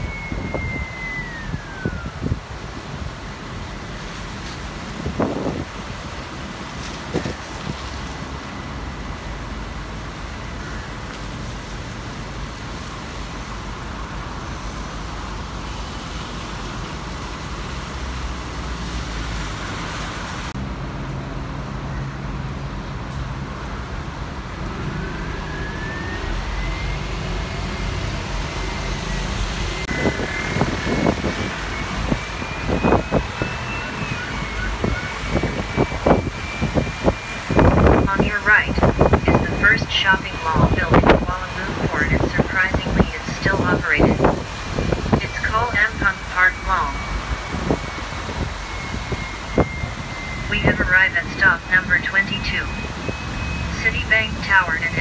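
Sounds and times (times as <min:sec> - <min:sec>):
bus engine rumble: 0:00.0 - 0:55.0
rising whine: 0:00.0 - 0:55.0
road noise: 0:00.0 - 0:55.0.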